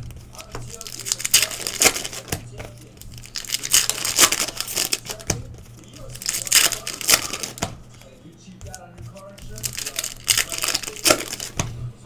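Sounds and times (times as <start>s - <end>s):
card pack wrappers crinkling and tearing: 0.0s - 12.0s.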